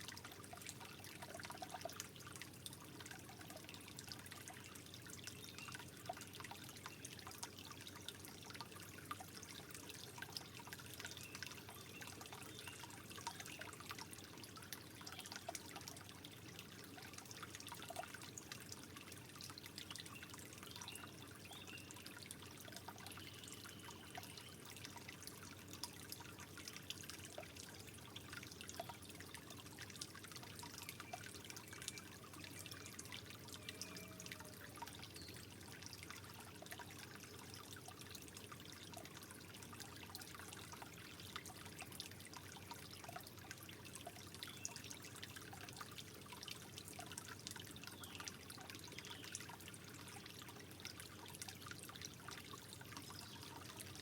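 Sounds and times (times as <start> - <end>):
small water drips: 0.0 - 54.0
water gently trickling: 0.0 - 54.0.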